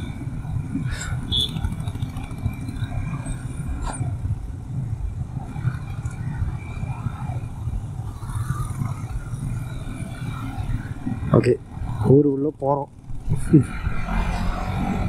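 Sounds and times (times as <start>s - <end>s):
motorcycle engine running: 0.0s - 12.1s
wind on microphone: 0.0s - 12.1s.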